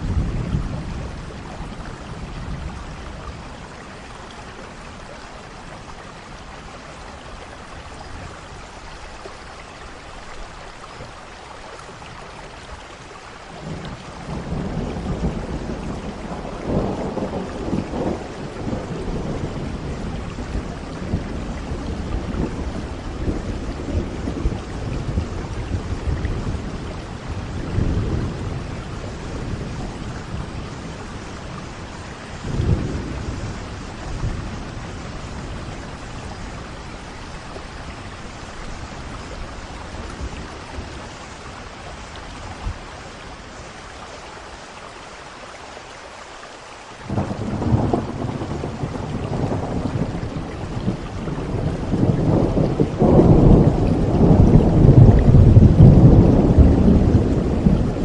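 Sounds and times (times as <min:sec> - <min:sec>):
thunder rumbling: 0:00.0 - 0:08.5, 0:13.6 - 0:43.8, 0:47.0 - 0:58.0
steady rain: 0:00.0 - 0:58.0.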